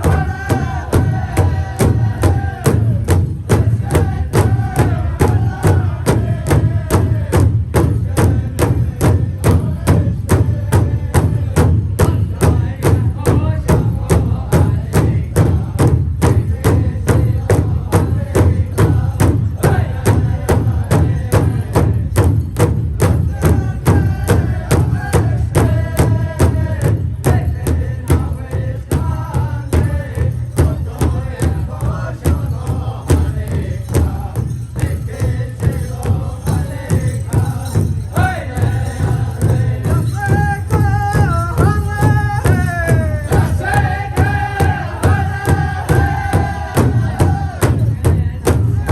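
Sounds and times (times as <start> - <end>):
group of singers chanting: 0.0 - 22.1, 23.0 - 40.4, 41.1 - 48.9
large drum beating: 0.0 - 48.9.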